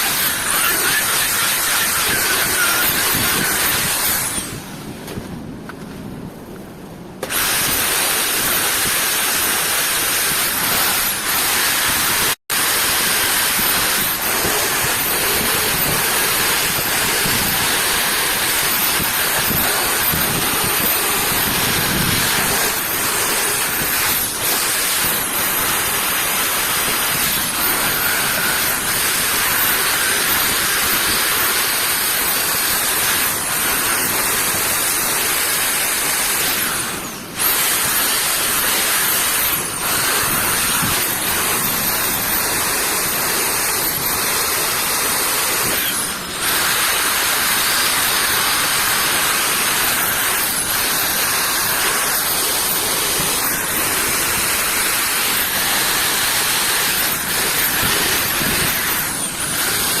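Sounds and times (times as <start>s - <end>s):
loud steady hissing: 0.0s - 4.9s, 7.2s - 60.0s.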